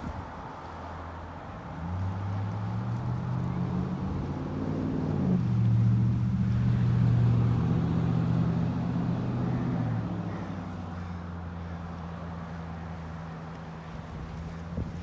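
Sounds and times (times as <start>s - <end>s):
faint ocean waves: 0.0s - 15.0s
engine passing by: 0.4s - 15.0s.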